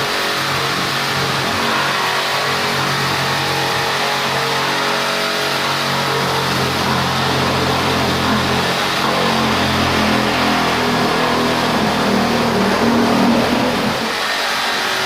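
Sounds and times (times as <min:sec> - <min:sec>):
reciprocating saw cutting brick: 0:00.0 - 0:15.0.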